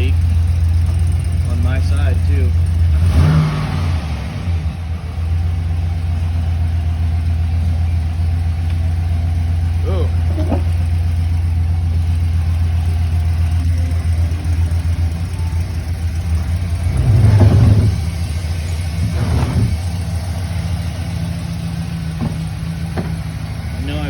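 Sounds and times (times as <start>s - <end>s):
truck engine idling and revving: 0.0s - 24.0s.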